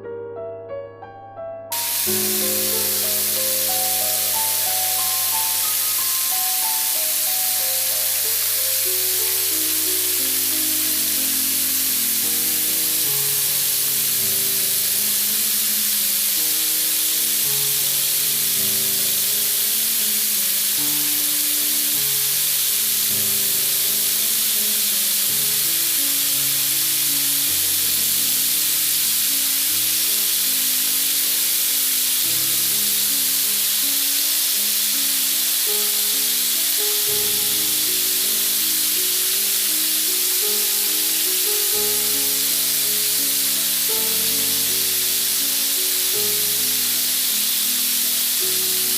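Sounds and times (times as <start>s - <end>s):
background music: 0.2s - 48.9s
chicken frying sizzle: 1.7s - 48.9s.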